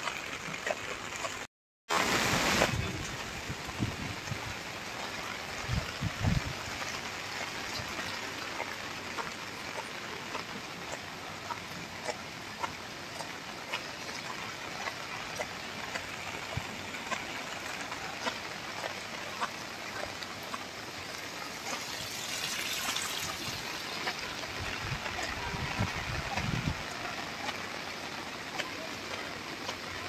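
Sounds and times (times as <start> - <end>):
rain on pavement and foliage: 0.0 - 30.0.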